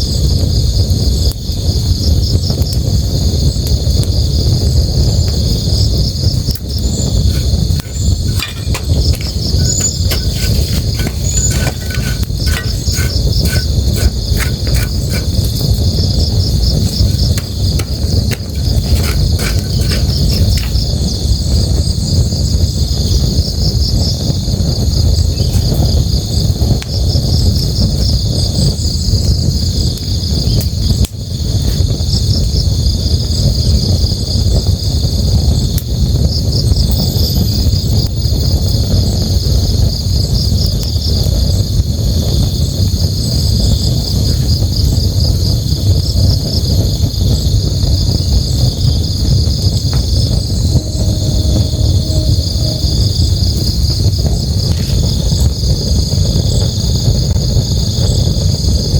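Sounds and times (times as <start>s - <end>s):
campfire crackles: 0.0s - 37.0s, 37.8s - 58.9s
crickets chirping: 0.1s - 34.0s, 34.8s - 58.9s.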